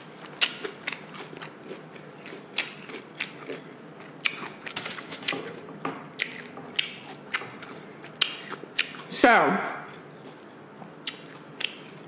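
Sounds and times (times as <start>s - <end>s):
chewing with wet clicks: 0.2s - 5.6s, 6.2s - 9.1s, 9.9s - 12.0s.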